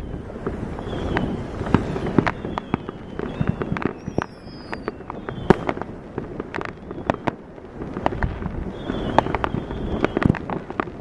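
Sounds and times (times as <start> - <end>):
firework whistles: 0.0 - 7.4, 8.0 - 10.9
fireworks popping and banging: 0.0 - 11.0.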